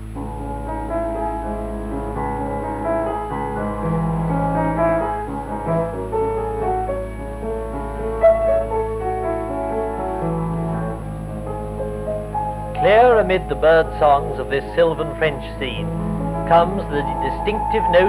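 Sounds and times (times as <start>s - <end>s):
piano-led film music: 0.0s - 18.0s
steady low hum: 0.0s - 18.0s.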